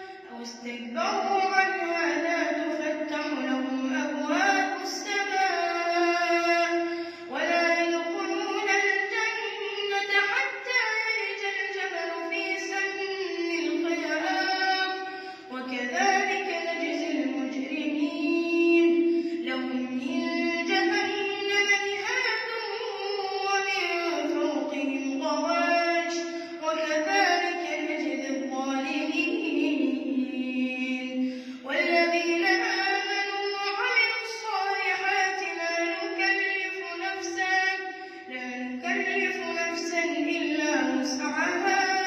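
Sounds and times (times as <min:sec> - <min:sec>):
boy reciting melodically: 0:00.0 - 0:42.0.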